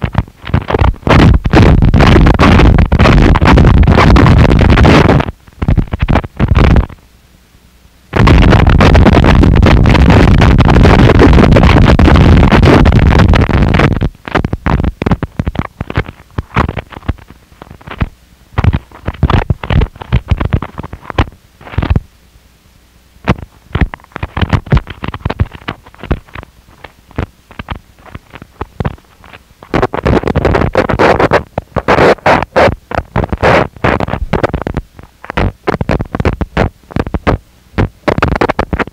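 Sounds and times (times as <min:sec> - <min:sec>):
harsh distorted noise music: 0:00.0 - 0:07.0, 0:08.1 - 0:22.1, 0:23.2 - 0:38.9.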